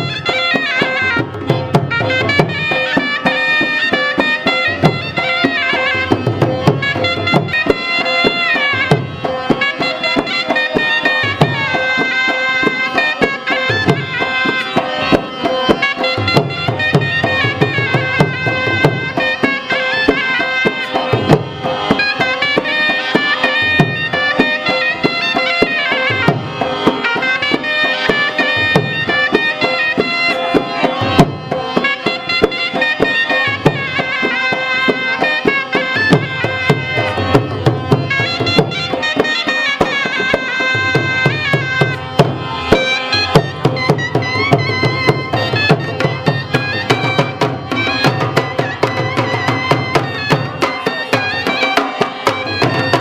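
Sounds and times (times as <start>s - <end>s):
hand drums beat: 0.0s - 53.0s
reedy wind instrument melody: 0.0s - 53.0s.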